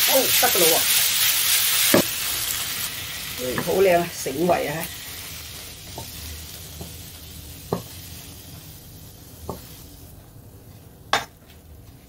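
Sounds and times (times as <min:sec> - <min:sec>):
food sizzling in wok: 0:00.0 - 0:10.2.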